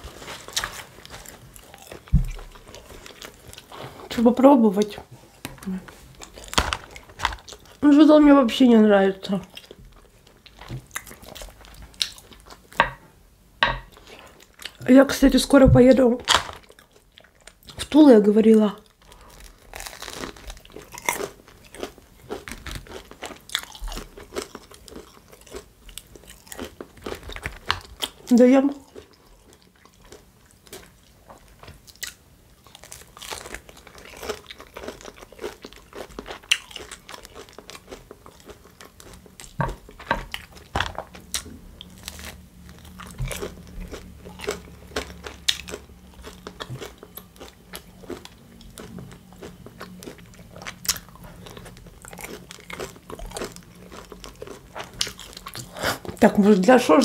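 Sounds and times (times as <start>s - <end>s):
crunching and chewing: 0.0s - 4.2s, 4.8s - 8.1s, 9.2s - 13.0s, 13.8s - 14.9s, 16.2s - 56.2s.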